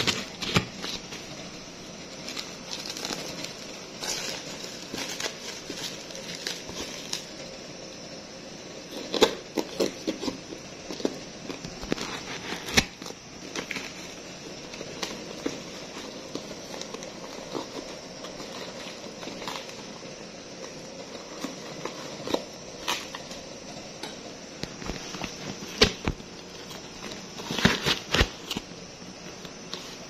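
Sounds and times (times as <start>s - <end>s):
plastic wrapping crinkling: 0.0s - 7.6s, 8.8s - 30.0s.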